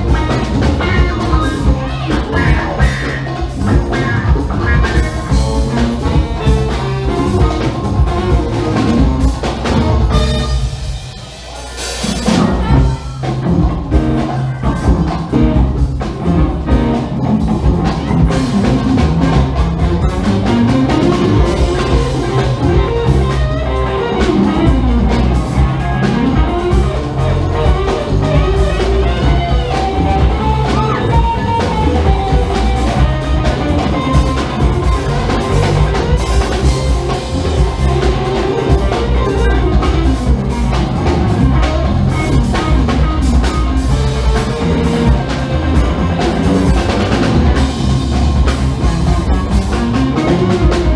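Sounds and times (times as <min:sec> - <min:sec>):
funk band playing: 0:00.0 - 0:50.9.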